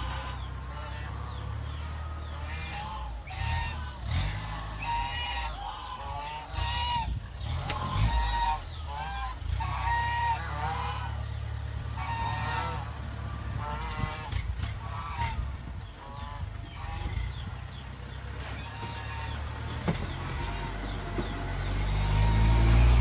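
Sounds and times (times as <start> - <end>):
geese honking: 0.0 - 23.0
tractor engine idling: 0.0 - 23.0.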